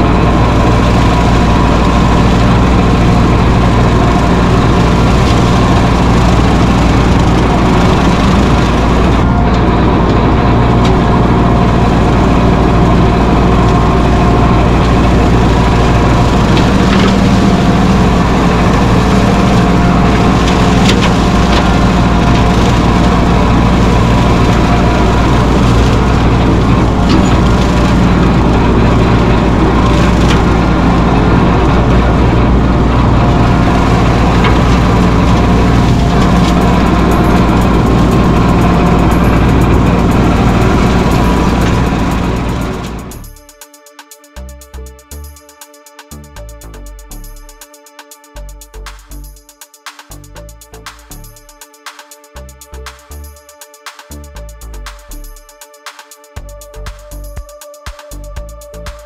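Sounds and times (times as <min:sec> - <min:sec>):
tractor diesel engine running: 0:00.0 - 0:43.6, 0:44.2 - 0:59.0.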